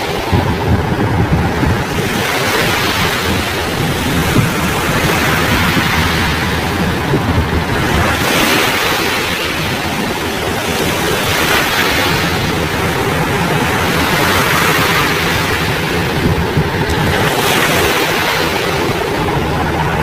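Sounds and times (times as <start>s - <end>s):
helicopter hovering: 0.0s - 20.0s
surf: 0.0s - 20.0s
wind buffeting microphone: 0.0s - 20.0s.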